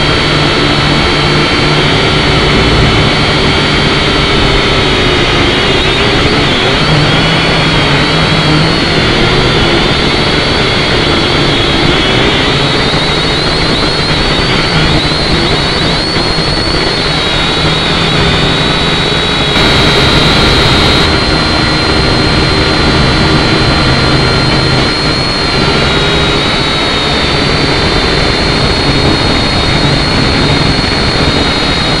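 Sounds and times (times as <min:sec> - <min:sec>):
drone propellers whining: 0:00.0 - 0:32.0.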